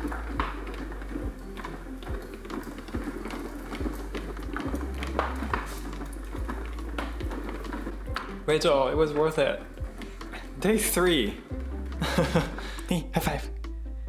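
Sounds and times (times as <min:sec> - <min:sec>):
cat exercise wheel rumbling: 0:00.0 - 0:12.9
wheel knocking: 0:00.0 - 0:12.9.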